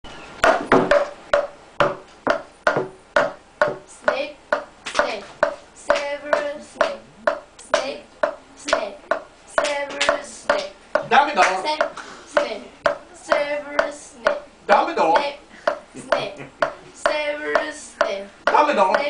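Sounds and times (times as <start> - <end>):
sharp voice-like syllables on a beat: 3.7 - 19.0.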